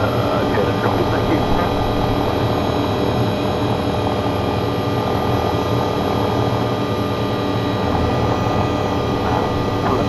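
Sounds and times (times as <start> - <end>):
helicopter turbine and rotors: 0.0 - 10.0.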